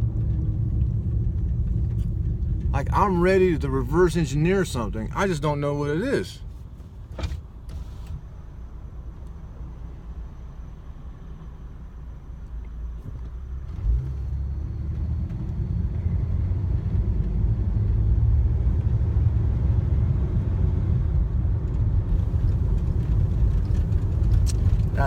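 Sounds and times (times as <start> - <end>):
vehicle rumble from inside cabin: 0.0 - 25.0.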